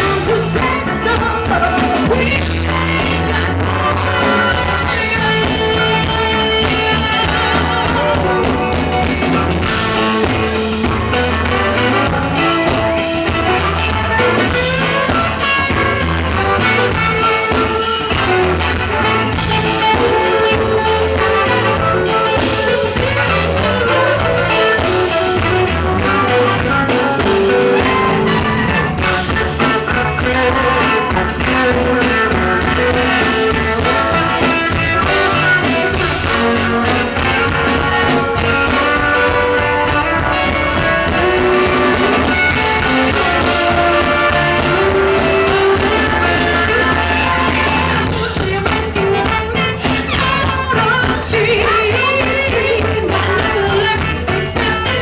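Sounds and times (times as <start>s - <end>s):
horn section: 0.0s - 55.0s
live funk band: 0.0s - 55.0s
person singing: 0.0s - 55.0s.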